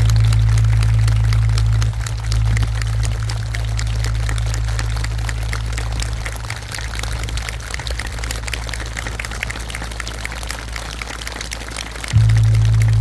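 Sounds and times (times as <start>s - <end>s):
electrical hum: 0.0s - 9.8s, 12.1s - 13.0s.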